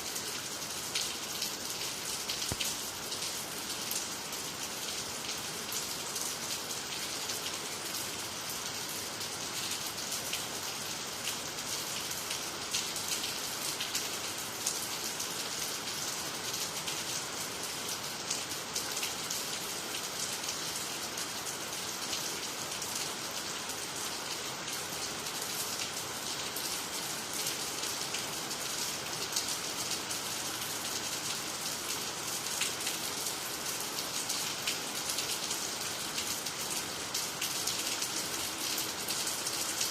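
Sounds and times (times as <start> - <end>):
rain falling on water and ground: 0.0 - 39.9.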